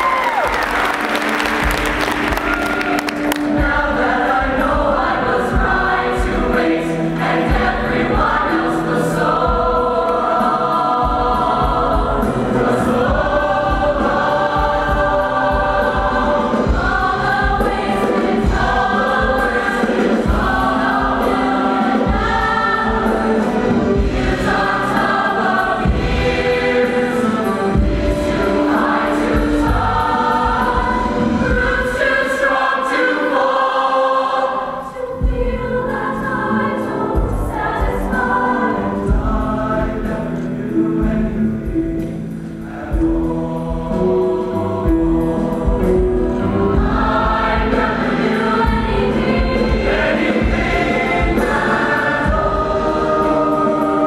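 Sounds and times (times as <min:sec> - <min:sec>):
mixed choir singing a ballad: 0:00.0 - 0:54.0.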